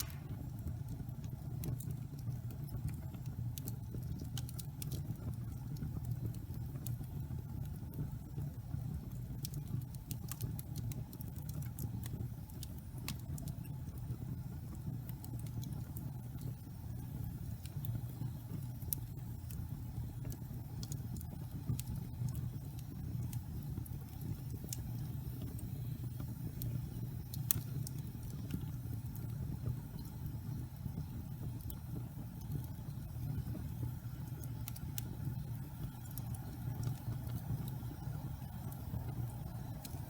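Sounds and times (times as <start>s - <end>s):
burning logs crackling and popping: 0.0s - 40.0s
fire flames rumbling: 0.0s - 40.0s.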